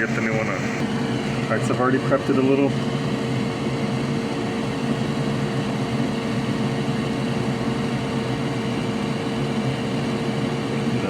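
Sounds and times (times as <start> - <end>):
electric fan motor whirring: 0.0 - 11.0.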